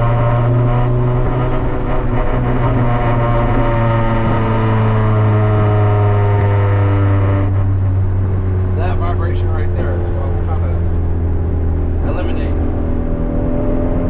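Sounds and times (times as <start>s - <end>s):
car engine drone in cabin: 0.0s - 14.0s.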